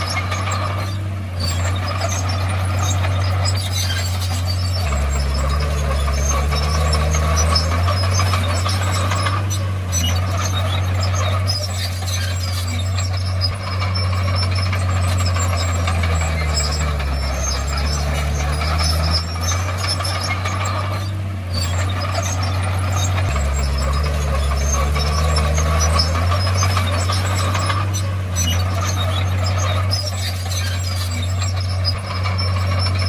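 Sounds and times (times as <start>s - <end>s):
bulldozer diesel engine running: 0.0s - 33.0s
steel tracks squeaking and clattering: 0.0s - 33.0s.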